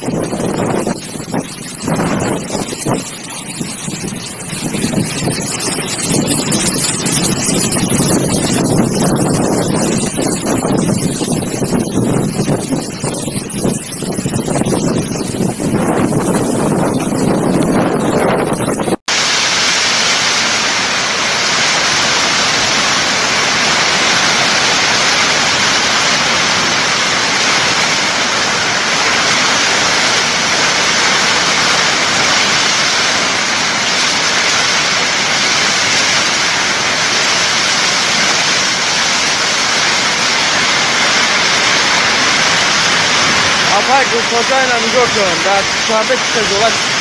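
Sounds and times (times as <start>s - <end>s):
torrential rain: 0.0s - 47.0s.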